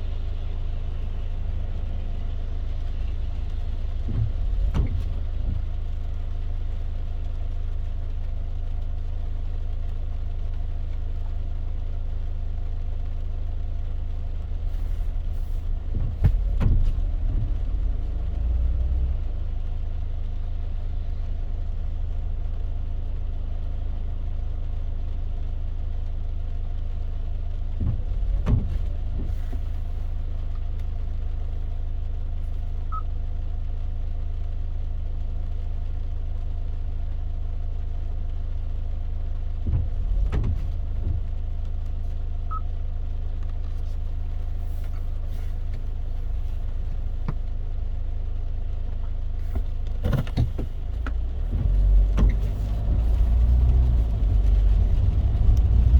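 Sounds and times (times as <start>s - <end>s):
road and engine rumble: 0.0s - 55.9s.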